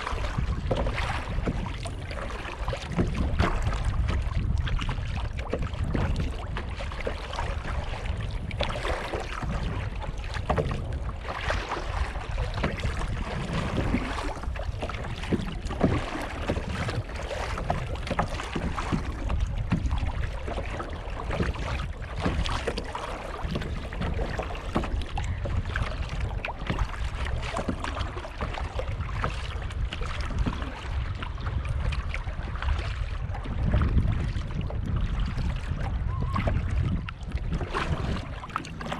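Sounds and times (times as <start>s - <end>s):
paddle splashing water: 0.0s - 38.9s
water sloshing against hull: 0.0s - 38.9s
wind buffeting microphone: 0.0s - 38.9s.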